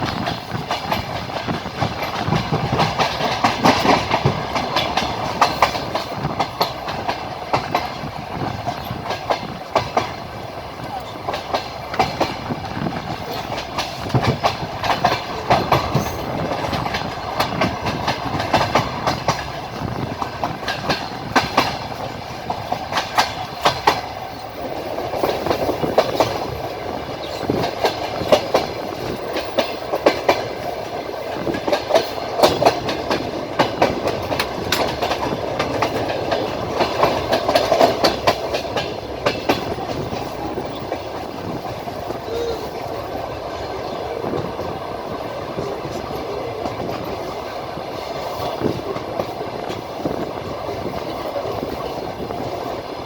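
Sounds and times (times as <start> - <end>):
train rolling rumble: 0.0 - 53.0
train wheels clicking on rail joints: 0.0 - 53.0.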